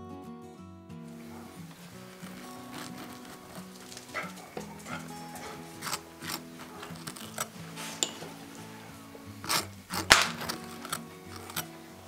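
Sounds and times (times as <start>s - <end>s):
background music: 0.0s - 12.0s
knife scraping toast: 1.2s - 12.0s.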